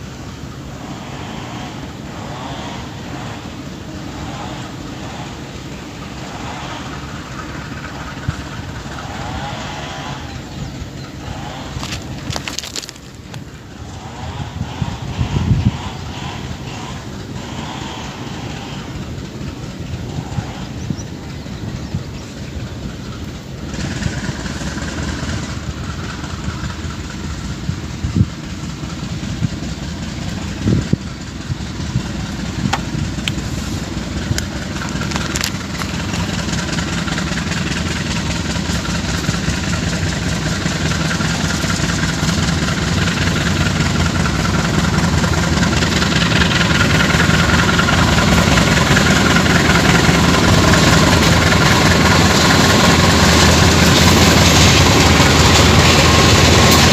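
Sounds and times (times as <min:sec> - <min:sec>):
diesel train engine approaching: 0:00.0 - 0:56.9.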